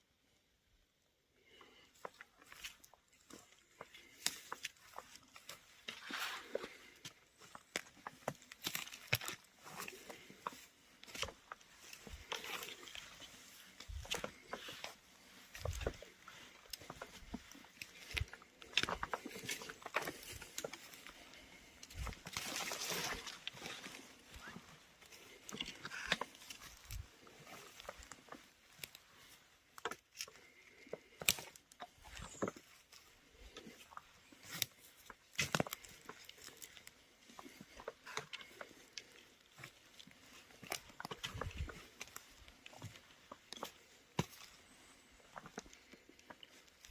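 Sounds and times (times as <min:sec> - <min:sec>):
footsteps snapping dry twigs: 0:01.5 - 0:46.9.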